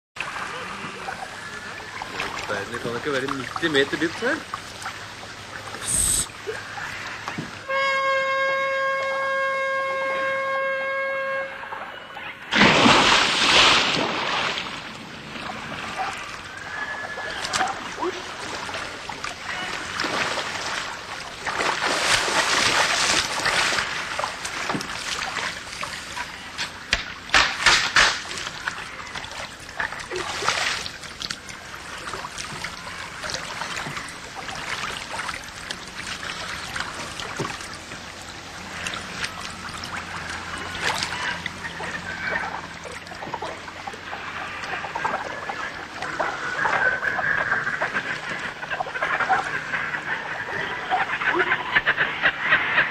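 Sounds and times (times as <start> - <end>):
water trickling: 0.2 - 11.0, 12.6 - 51.0
water splashing: 0.2 - 11.1, 11.7 - 52.9.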